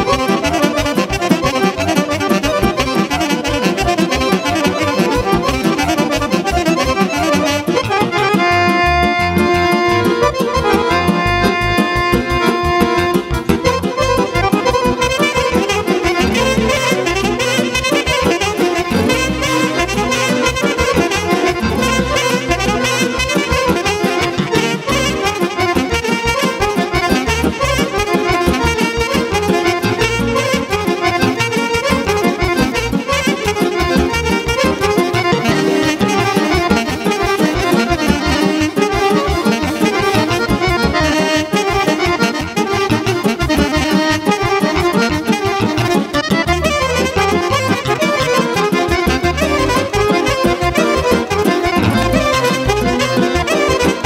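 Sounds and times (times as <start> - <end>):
folk band playing dance music: 0.0 - 54.0.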